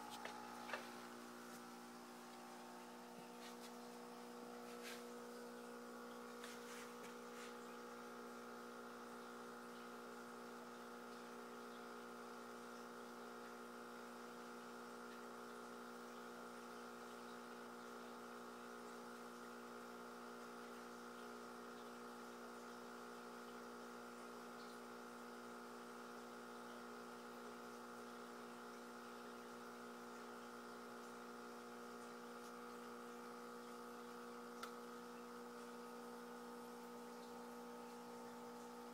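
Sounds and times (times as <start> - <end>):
faint electrical hum: 0.0 - 38.9.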